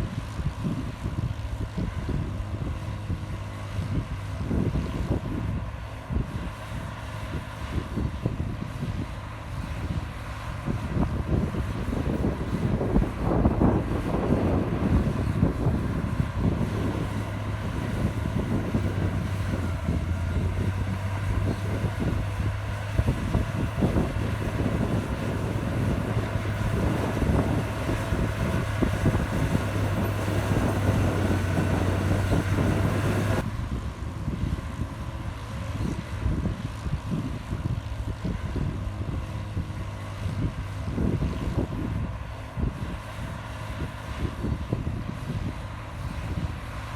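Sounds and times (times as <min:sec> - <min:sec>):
bulldozer diesel engine running: 0:00.0 - 0:46.9
low droning hum: 0:00.0 - 0:46.9.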